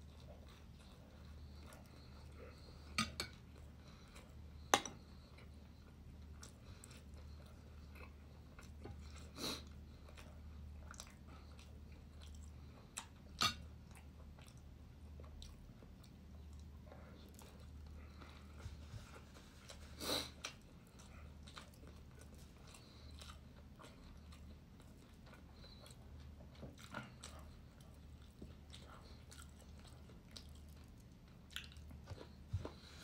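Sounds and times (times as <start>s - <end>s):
soft chewing: 0.0s - 33.0s.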